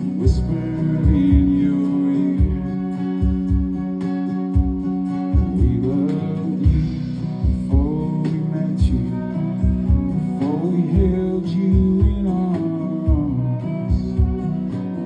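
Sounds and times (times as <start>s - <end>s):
bass and drum beat: 0.0s - 15.0s
guitar: 0.0s - 15.0s
live band playing country song: 0.0s - 15.0s.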